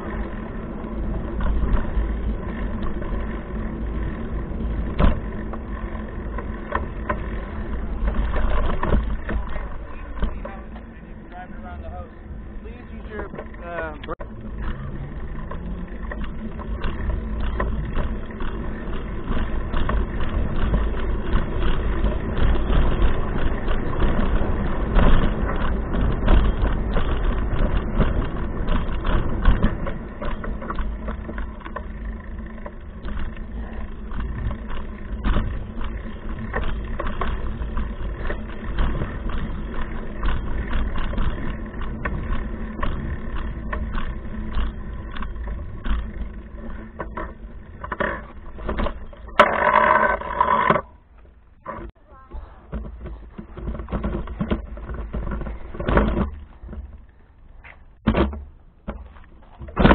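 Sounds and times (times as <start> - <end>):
bicycle rattling and knocking: 0.0 - 59.9.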